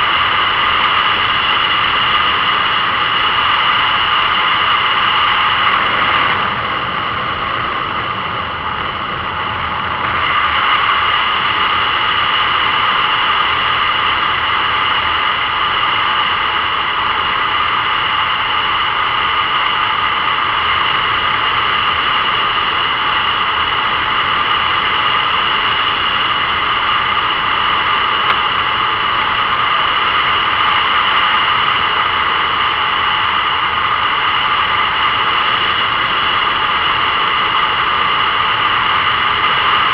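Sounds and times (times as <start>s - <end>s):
high even whine: 0.0s - 39.9s
wind and road rush: 0.0s - 39.9s.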